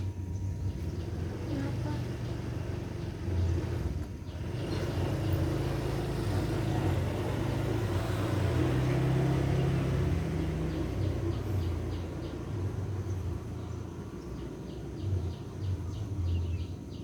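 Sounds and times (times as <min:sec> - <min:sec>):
low engine-like rumble: 0:00.0 - 0:17.0.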